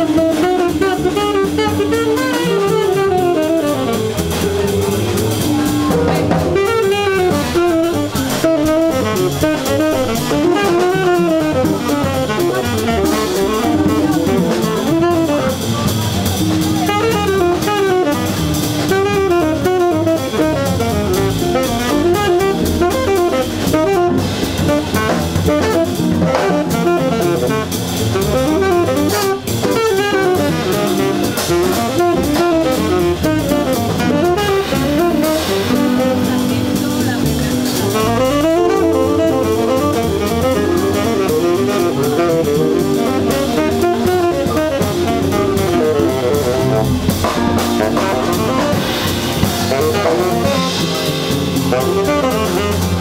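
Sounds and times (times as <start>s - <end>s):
double bass: 0.0s - 53.0s
drum kit: 0.0s - 53.0s
saxophone melodic runs: 0.0s - 53.0s.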